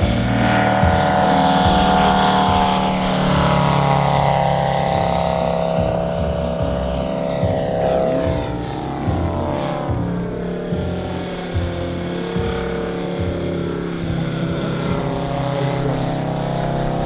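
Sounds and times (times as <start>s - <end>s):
model plane engine and propeller: 0.0s - 17.0s.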